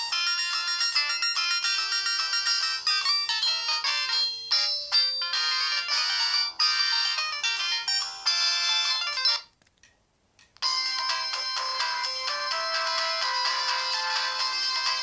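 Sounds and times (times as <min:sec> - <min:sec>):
synthesized ringtone melody: 0:00.0 - 0:09.5, 0:10.6 - 0:15.0.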